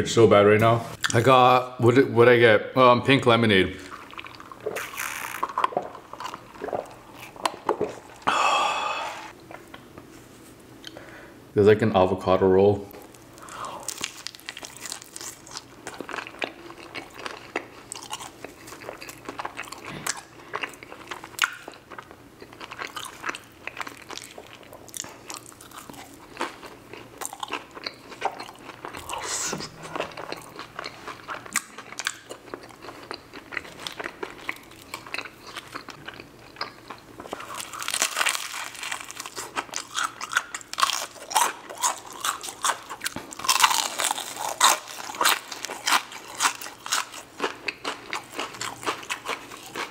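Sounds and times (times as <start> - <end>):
person chewing crunchy food: 3.8 - 8.4, 12.9 - 49.9.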